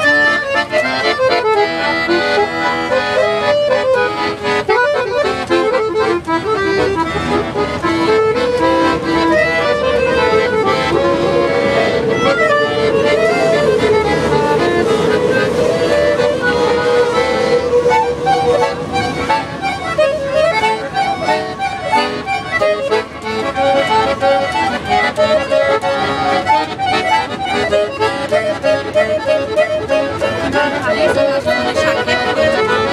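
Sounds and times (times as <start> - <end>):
accordion playing a tune: 0.0 - 32.9.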